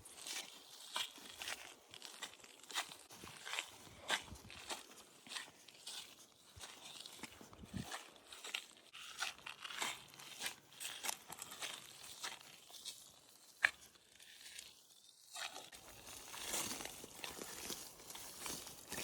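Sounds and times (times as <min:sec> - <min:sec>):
dry leaves and twigs crunching: 0:00.0 - 0:19.0.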